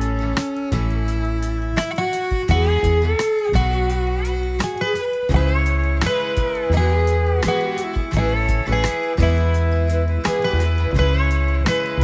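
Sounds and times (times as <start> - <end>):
country guitar with bending notes: 0.0 - 12.0
steady bass: 0.0 - 12.0.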